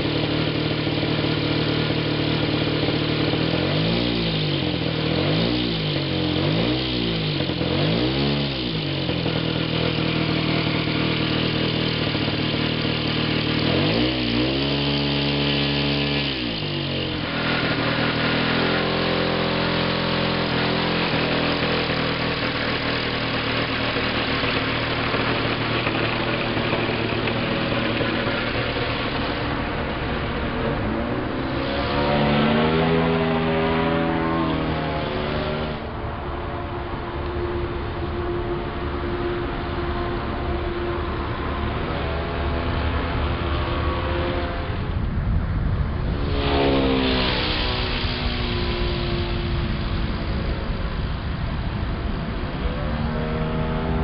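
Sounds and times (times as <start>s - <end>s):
model plane engine revving: 0.0s - 54.0s.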